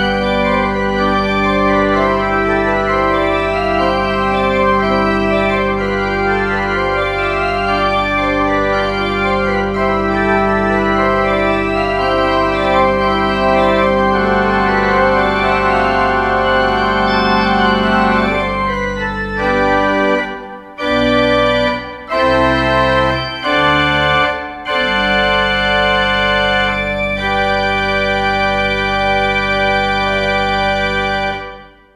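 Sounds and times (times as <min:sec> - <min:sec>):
low organ pedal note: 0:00.0 - 0:31.7
organ chords: 0:00.0 - 0:31.9.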